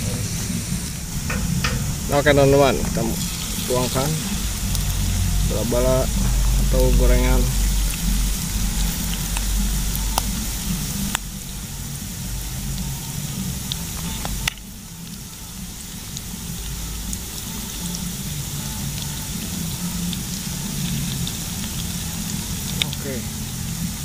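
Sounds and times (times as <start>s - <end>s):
batter sizzling in hot oil: 0.0s - 24.0s
oil crackling: 0.0s - 24.0s.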